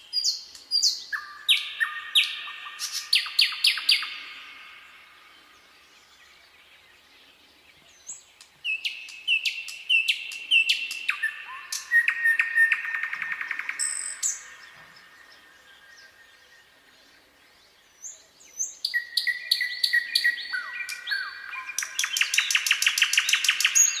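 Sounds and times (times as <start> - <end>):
nightingale singing: 0.0 - 24.0.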